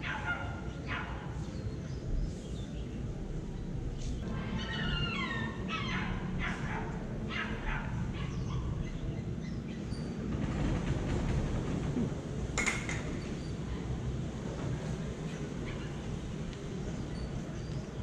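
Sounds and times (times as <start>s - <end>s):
city street rumble: 0.0s - 18.0s.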